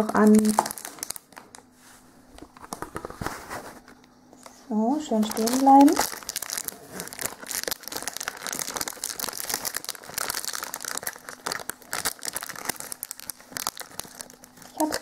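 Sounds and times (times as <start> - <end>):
cellophane crinkling: 0.0 - 15.0.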